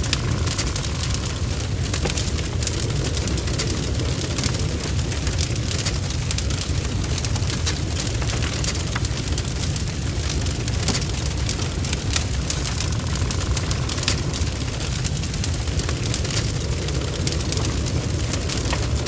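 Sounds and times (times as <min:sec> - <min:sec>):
fire crackling and rumbling: 0:00.0 - 0:19.0.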